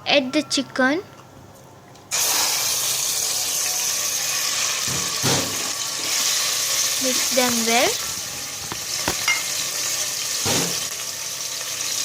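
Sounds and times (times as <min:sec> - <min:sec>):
chicken sizzling in hot oil: 0:02.1 - 0:12.0.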